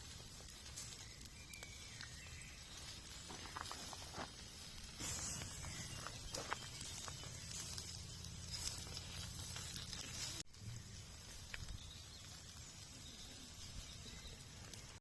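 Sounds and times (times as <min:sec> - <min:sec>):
food sizzling over campfire: 0:00.0 - 0:15.0.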